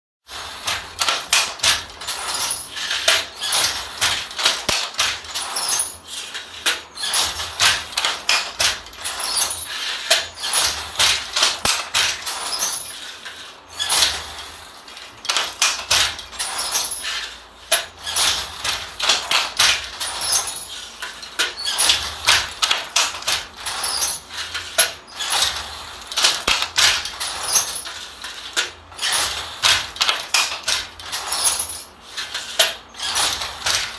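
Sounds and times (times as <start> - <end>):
handloom clacking and knocking: 0.3 - 33.9.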